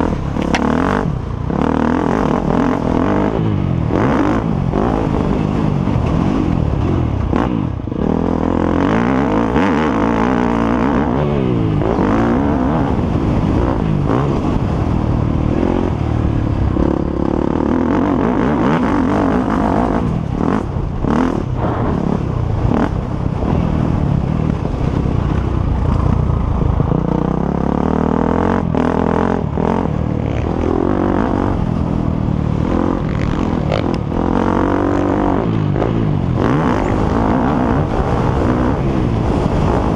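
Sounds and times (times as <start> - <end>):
motocross motorcycle engines racing: 0.0 - 39.9.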